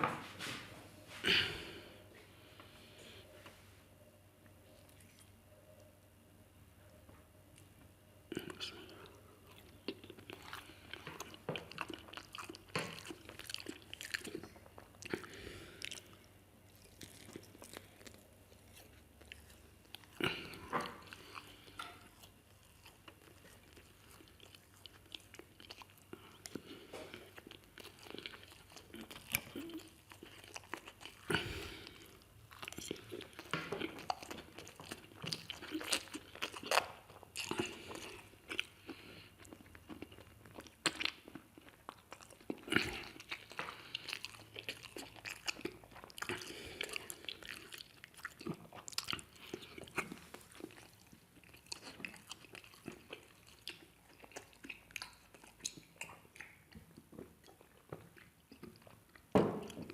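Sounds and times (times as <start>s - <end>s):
crunchy chewing: 8.3s - 59.9s.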